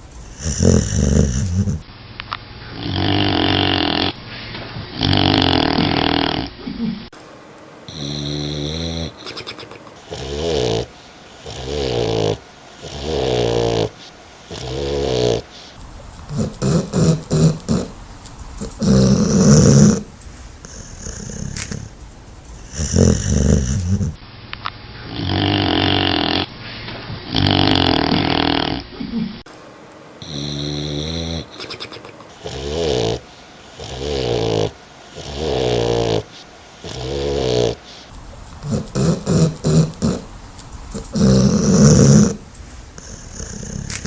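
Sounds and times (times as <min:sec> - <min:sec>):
dog snoring: 0:00.0 - 0:01.9, 0:02.6 - 0:04.2, 0:04.8 - 0:07.0, 0:07.9 - 0:18.0, 0:18.6 - 0:24.2, 0:25.0 - 0:26.5, 0:27.2 - 0:29.4, 0:30.2 - 0:42.4, 0:43.0 - 0:44.0
dog snorting: 0:00.0 - 0:01.9, 0:02.6 - 0:07.1, 0:07.9 - 0:24.2, 0:25.0 - 0:29.5, 0:30.2 - 0:44.0.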